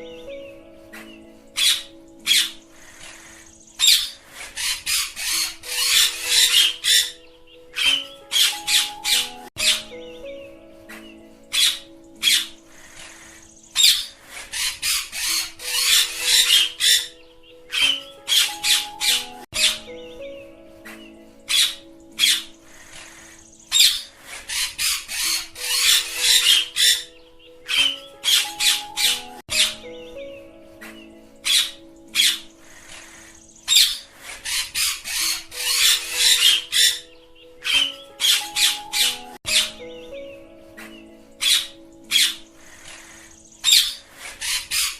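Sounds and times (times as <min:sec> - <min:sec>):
background music low notes: 0:00.0 - 0:44.9
parakeets squawking: 0:01.0 - 0:09.9, 0:11.0 - 0:20.1, 0:21.0 - 0:30.1, 0:30.9 - 0:40.1, 0:40.9 - 0:44.9.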